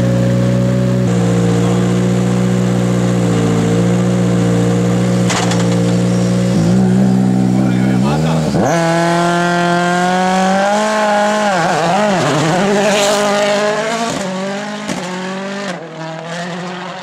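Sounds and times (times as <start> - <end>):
rally car engine revving hard: 0.0 - 17.0.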